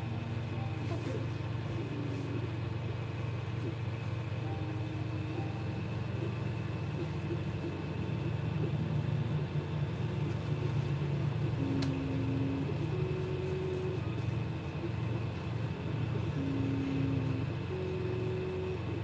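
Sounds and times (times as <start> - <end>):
cooling fans whirring: 0.0 - 19.0
stepper motors humming: 0.0 - 19.0.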